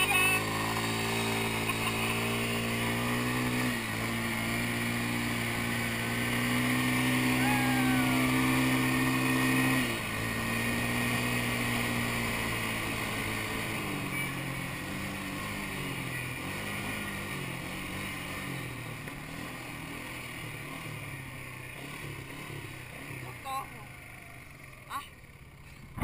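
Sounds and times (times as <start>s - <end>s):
quad bike engine: 0.0s - 26.0s.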